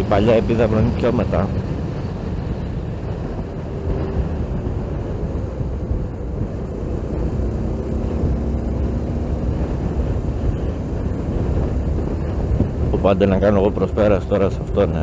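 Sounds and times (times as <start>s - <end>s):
motorcycle engine running: 0.0s - 13.7s
wind rushing over microphone: 0.0s - 15.0s.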